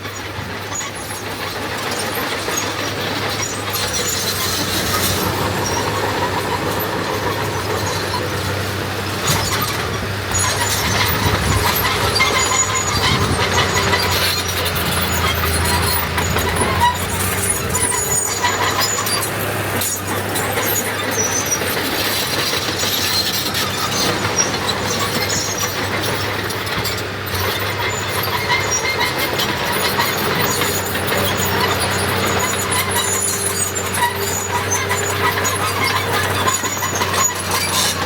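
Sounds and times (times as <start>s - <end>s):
heavy diesel engines droning: 0.0s - 38.0s
high squeaks: 0.7s - 38.0s.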